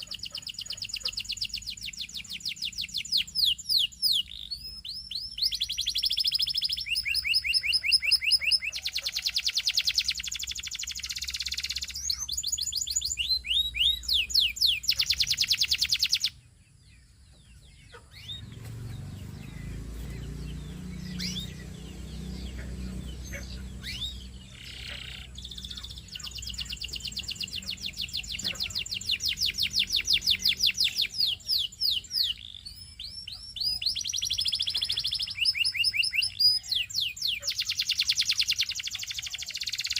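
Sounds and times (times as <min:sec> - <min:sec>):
canary singing trills: 0:00.0 - 0:39.9
faint bird chirps: 0:00.0 - 0:39.9.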